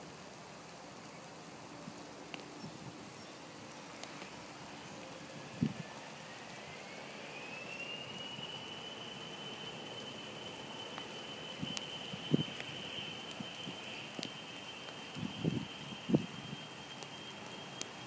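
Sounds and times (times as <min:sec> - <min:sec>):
distant aircraft engine whine: 0:00.0 - 0:18.0
rain hiss: 0:00.0 - 0:18.0.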